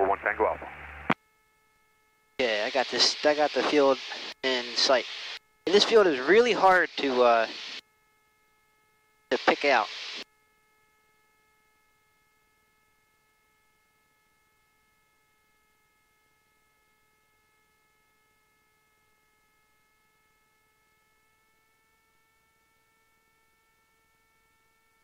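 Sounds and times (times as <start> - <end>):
faint high-pitched hum: 0.0 - 25.0.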